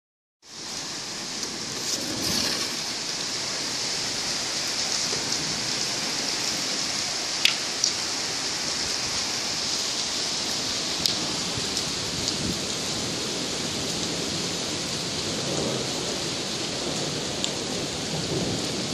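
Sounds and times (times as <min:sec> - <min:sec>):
steady rain: 0:00.4 - 0:18.9.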